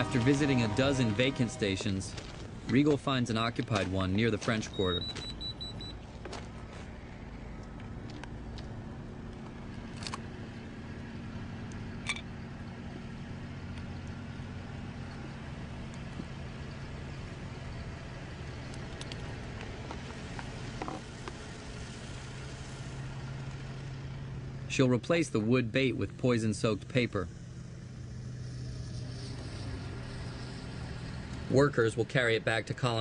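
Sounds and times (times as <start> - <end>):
street traffic engine hum: 0.0 - 33.0.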